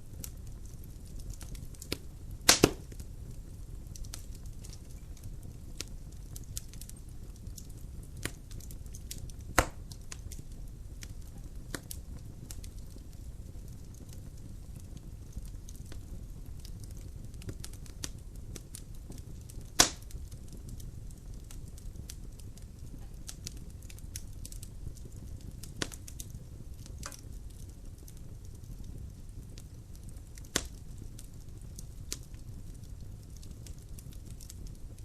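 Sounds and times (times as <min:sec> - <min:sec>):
logs burning in fireplace: 0:00.0 - 0:35.0
sharp fire snaps: 0:00.0 - 0:35.0.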